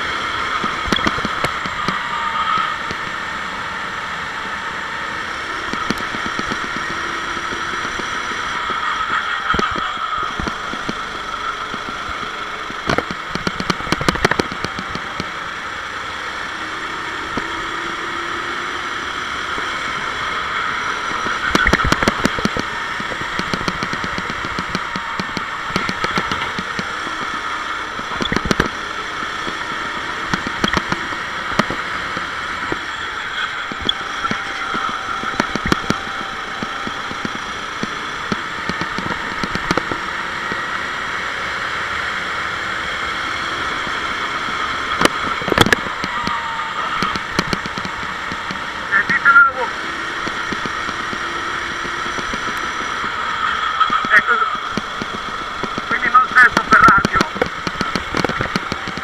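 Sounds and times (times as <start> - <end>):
kart engine at racing speed: 0.0 - 59.0
rapid rattling clicks: 0.2 - 3.2, 5.2 - 15.7, 19.2 - 40.7, 43.5 - 49.2, 49.9 - 59.0.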